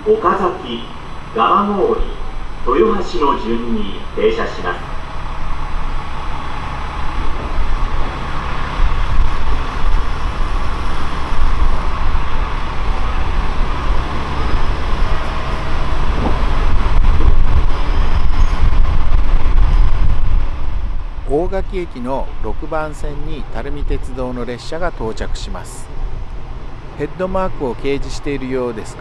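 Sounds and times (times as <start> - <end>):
diesel railcar engine: 0.0 - 29.0
train wheels rumbling on track: 0.0 - 29.0.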